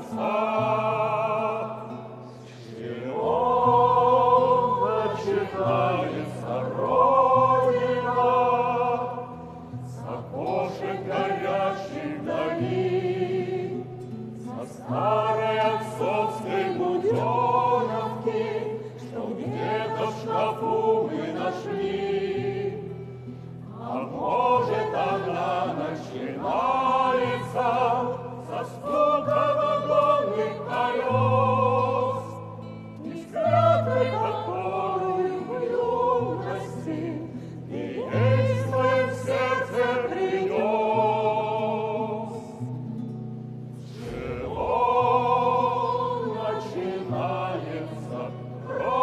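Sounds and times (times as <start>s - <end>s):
choir singing: 0.0s - 43.1s, 43.8s - 49.0s.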